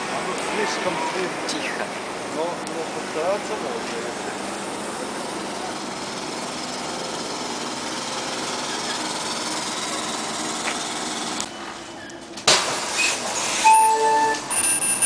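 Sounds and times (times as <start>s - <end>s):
noise inside moving trolleybus: 0.0s - 15.0s
trolleybus hum and rattle: 0.0s - 15.0s.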